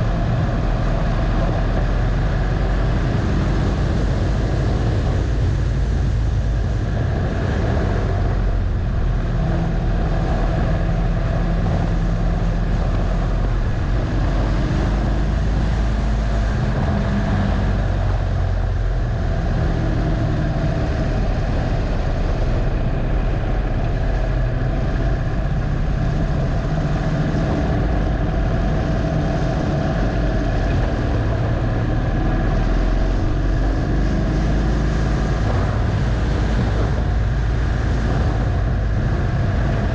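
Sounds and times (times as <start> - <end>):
motorcycle engine running hard: 0.0 - 39.9
wind rushing: 0.0 - 39.9.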